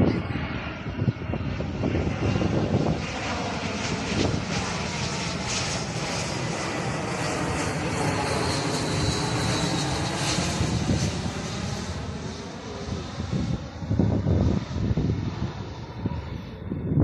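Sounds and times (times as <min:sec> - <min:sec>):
airliner engines rushing: 0:00.0 - 0:17.0
faint high engine whine: 0:00.0 - 0:17.0.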